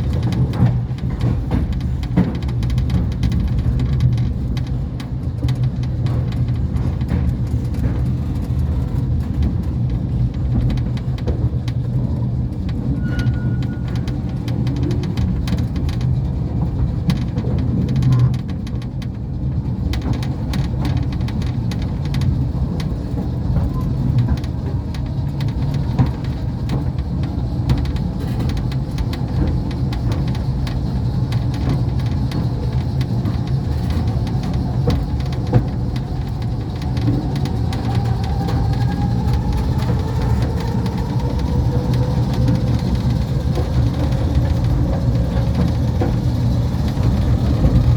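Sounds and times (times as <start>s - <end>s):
train rumble and hum: 0.0s - 47.9s
wheel and rail clicks: 0.0s - 47.9s.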